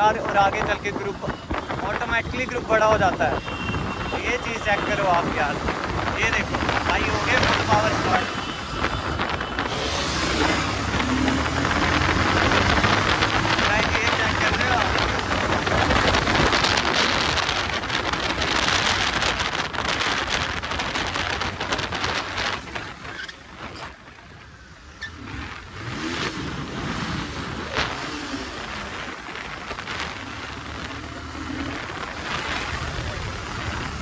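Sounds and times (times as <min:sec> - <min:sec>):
motorcycle engine and road noise: 0:00.0 - 0:34.0
wind rushing over microphone: 0:00.0 - 0:34.0.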